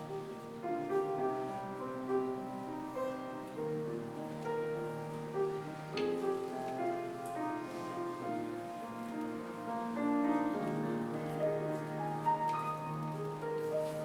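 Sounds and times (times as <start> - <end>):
slow keyboard melody: 0.0 - 14.0.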